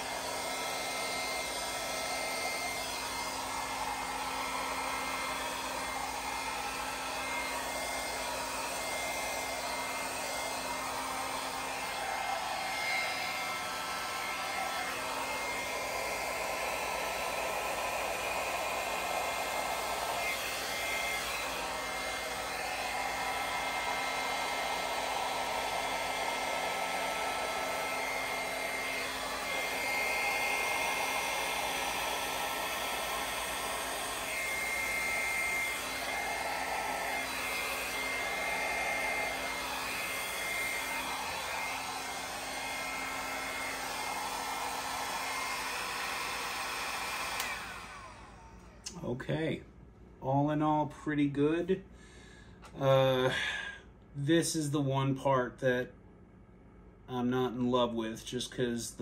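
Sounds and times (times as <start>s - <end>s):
hair dryer running: 0.0s - 49.0s.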